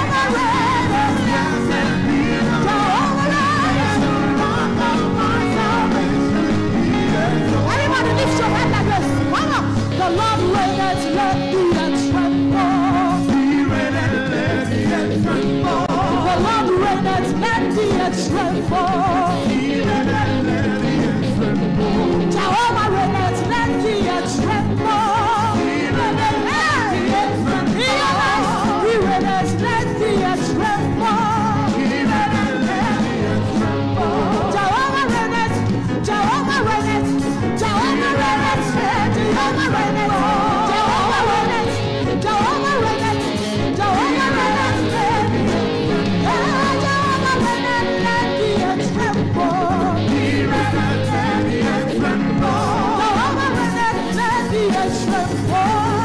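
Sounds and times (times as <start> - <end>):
band playing: 0.0 - 56.0
voices singing: 0.0 - 56.0.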